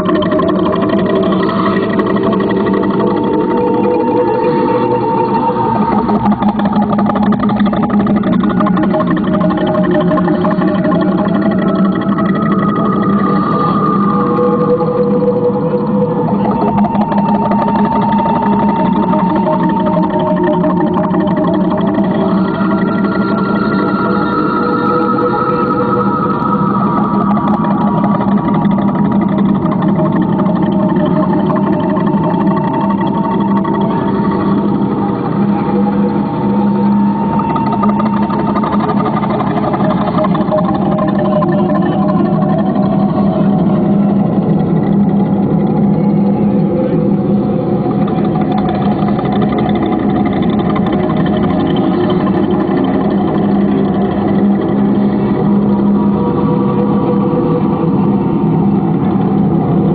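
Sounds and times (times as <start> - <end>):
ambient electronic drone music: 0.0 - 59.9.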